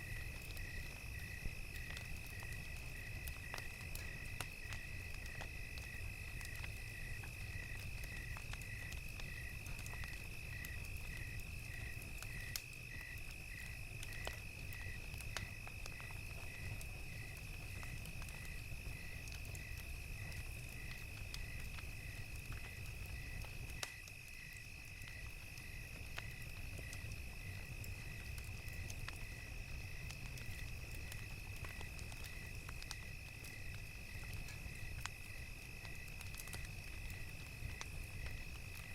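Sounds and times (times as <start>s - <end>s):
campfire crackling: 0.0s - 38.9s
crickets chirping: 0.0s - 38.9s.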